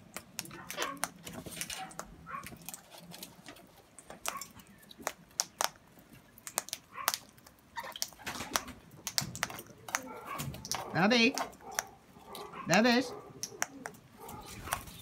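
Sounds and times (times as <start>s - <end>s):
bird beaks pecking at seed: 0.0s - 15.0s.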